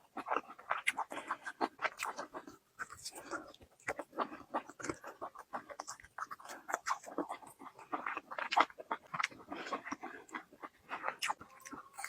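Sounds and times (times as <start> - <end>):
chewing and biting chicken: 0.0 - 12.0.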